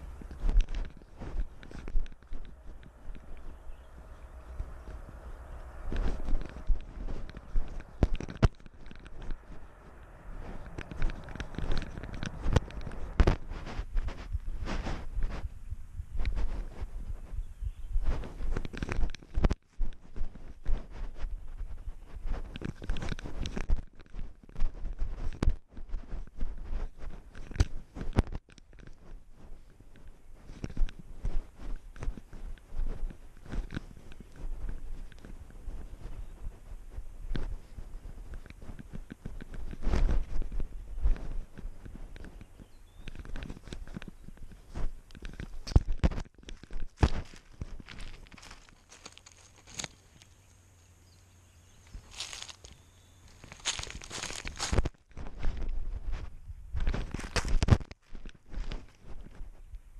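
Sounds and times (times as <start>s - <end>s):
sharp crackle of twig: 0.0s - 15.4s, 18.0s - 59.6s
camera rubbing against fur: 0.0s - 50.6s, 51.6s - 59.9s
rustling and crunching brush: 0.0s - 59.9s.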